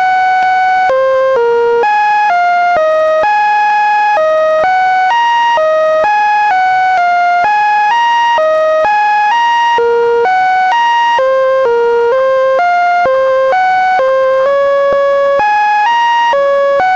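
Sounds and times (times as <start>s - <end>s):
buzzy synthesized electronic tones: 0.1s - 16.9s.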